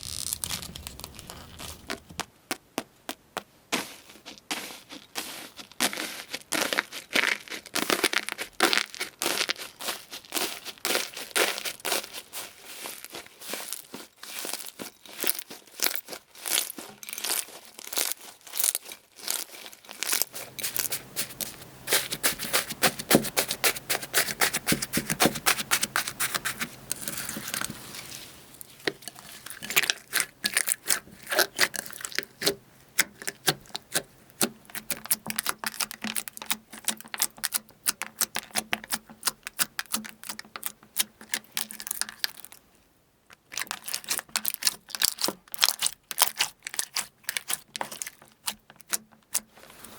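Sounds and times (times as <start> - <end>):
slime crackling and popping: 0.0 - 2.2, 6.2 - 42.6, 43.4 - 49.5.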